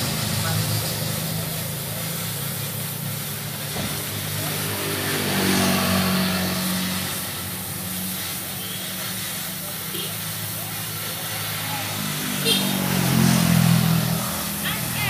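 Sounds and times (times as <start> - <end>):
engine running: 0.0 - 15.0
vehicle passing: 0.0 - 15.0.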